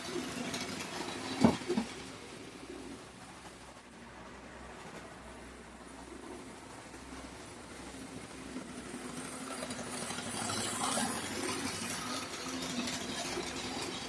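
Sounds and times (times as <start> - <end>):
model locomotive motor whirring: 0.0 - 3.6, 5.6 - 14.0
wheels clattering over rails: 0.0 - 14.0.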